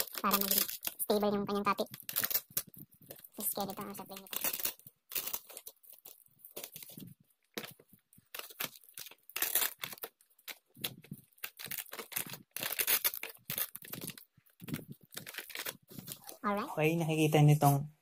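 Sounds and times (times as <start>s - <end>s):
insulated bag rustling and crinkling: 0.0s - 17.0s.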